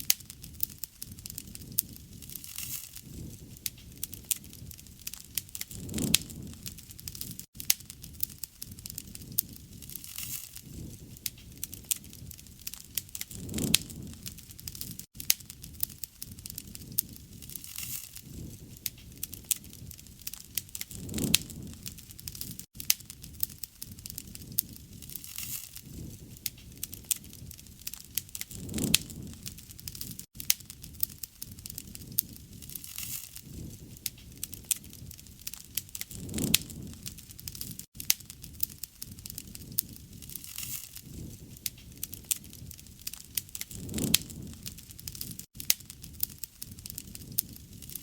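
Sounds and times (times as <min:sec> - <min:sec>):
rush of burning flame: 0:00.0 - 0:48.0
wood fire crackling and popping: 0:00.0 - 0:48.0.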